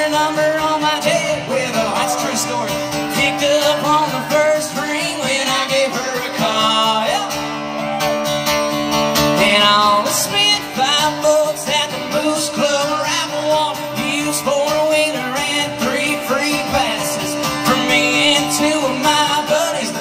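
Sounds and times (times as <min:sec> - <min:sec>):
man singing into a microphone: 0:00.0 - 0:08.0, 0:09.3 - 0:20.0
strummed acoustic guitar: 0:00.0 - 0:20.0.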